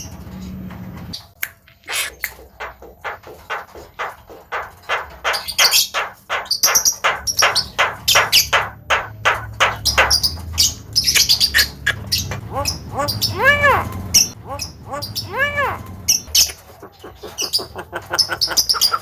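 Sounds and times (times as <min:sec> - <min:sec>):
bird harsh chattering calls: 0:01.9 - 0:19.0.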